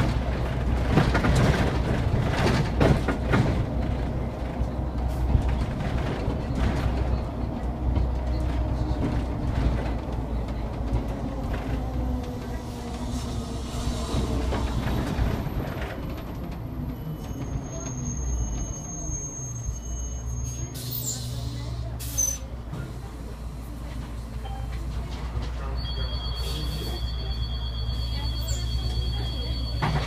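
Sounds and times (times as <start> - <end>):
bus engine rumble: 0.0 - 30.0
road noise: 0.0 - 30.0.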